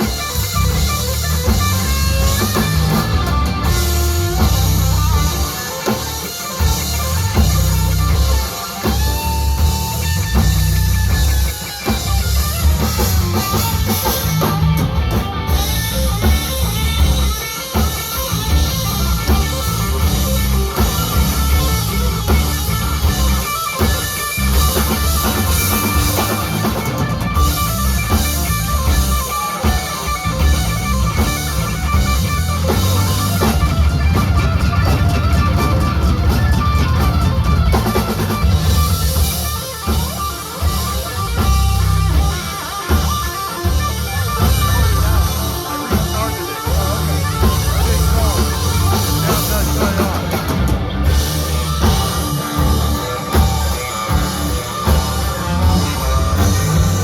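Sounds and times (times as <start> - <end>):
drum kit: 0.0 - 57.0
electric guitar lead: 0.0 - 57.0
heavy bass: 0.0 - 57.0.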